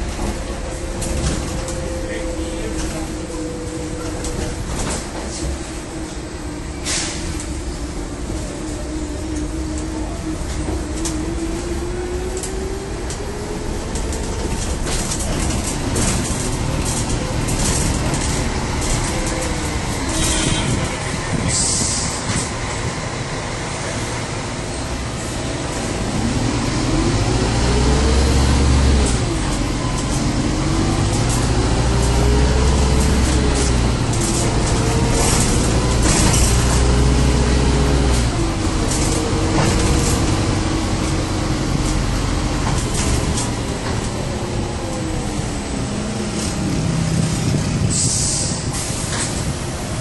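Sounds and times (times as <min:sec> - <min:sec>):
bus engine low drone: 0:00.0 - 0:50.0
rising whine of bus: 0:00.0 - 0:50.0.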